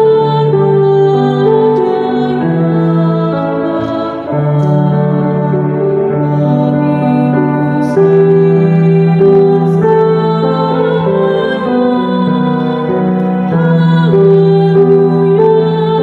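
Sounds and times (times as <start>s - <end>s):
woman singing a hymn: 0.0s - 16.0s.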